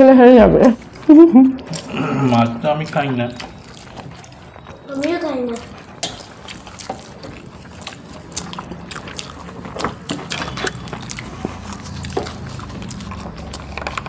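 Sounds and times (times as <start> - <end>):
chewing and lip smacks: 0.6 - 14.0.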